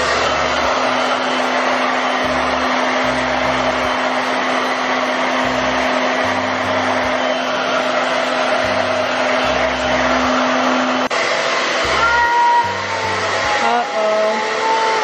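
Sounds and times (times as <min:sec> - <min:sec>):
hair dryer rushing air: 0:00.0 - 0:15.0.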